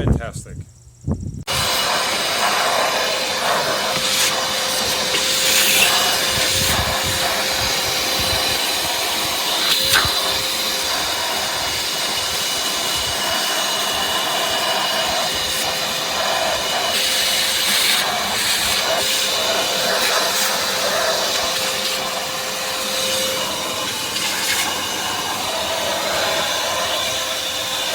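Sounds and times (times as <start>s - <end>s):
shop vacuum running: 1.5s - 27.9s.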